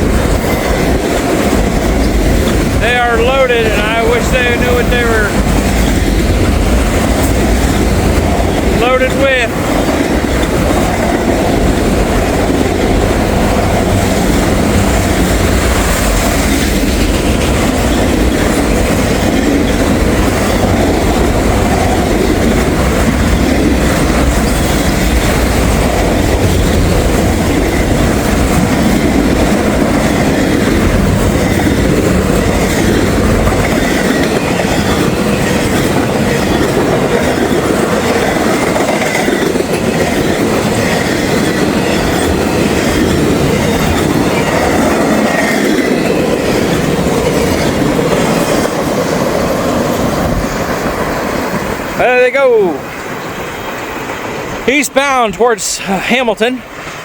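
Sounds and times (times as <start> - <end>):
freight train cars rolling past: 0.0 - 57.0.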